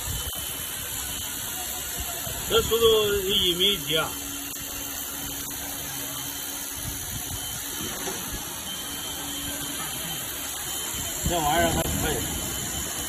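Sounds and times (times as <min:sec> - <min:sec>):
laser welding machine hissing: 0:00.0 - 0:13.0.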